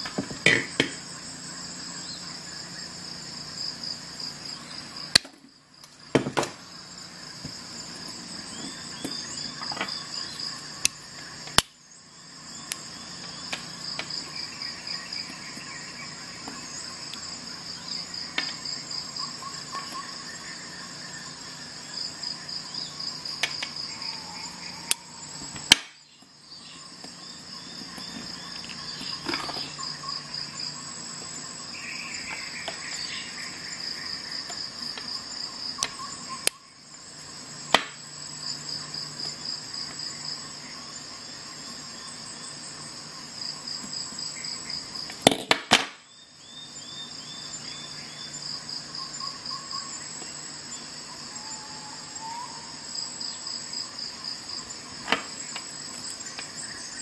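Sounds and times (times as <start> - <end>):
insects chirping in trills: 0.0 - 57.0.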